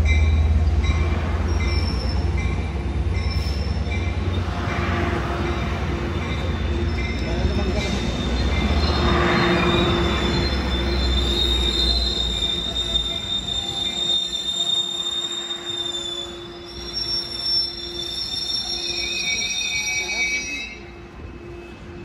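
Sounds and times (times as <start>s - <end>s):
train rumble: 0.0s - 22.0s
train wheel squeal: 0.0s - 22.0s.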